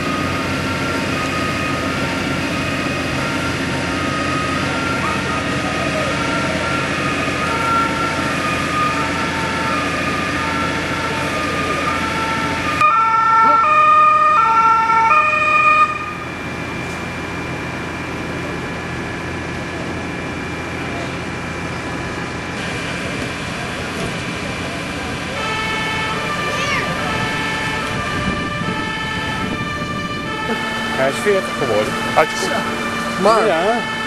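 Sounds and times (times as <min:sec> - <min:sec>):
two-tone sirens: 0:00.0 - 0:34.0
vehicle engine rumble: 0:00.0 - 0:34.0.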